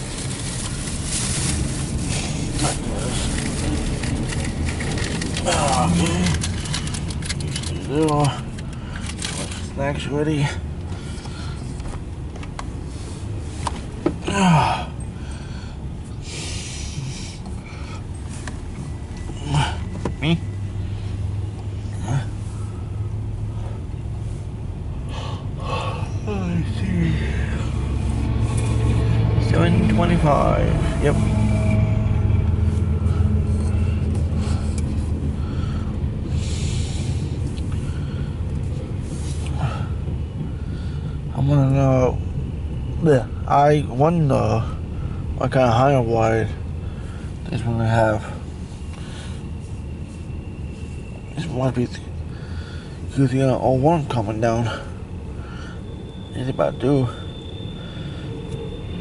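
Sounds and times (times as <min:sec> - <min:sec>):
freight train rumbling past: 0:00.0 - 0:09.0, 0:14.8 - 0:59.0.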